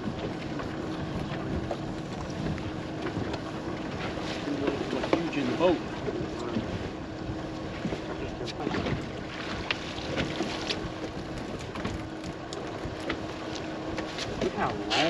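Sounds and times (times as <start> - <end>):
water washing against hull: 0.0 - 15.0
wind buffeting microphone: 0.0 - 15.0.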